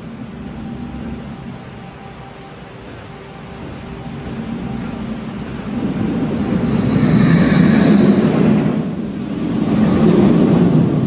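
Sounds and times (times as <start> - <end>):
roller coaster wheel rumble: 0.0 - 11.0.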